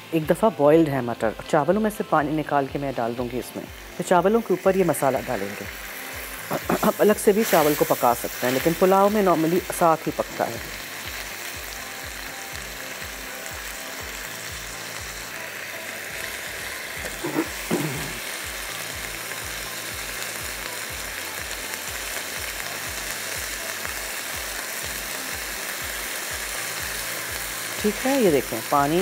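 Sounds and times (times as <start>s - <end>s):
meat and onions sizzling in wok: 0.0s - 29.0s.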